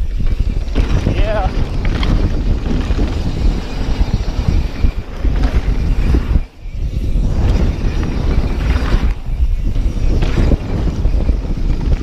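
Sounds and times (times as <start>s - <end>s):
bike knocks and rattles: 0.0s - 12.0s
rumble of bike tyres: 0.0s - 12.0s
wind buffeting microphone: 0.0s - 12.0s.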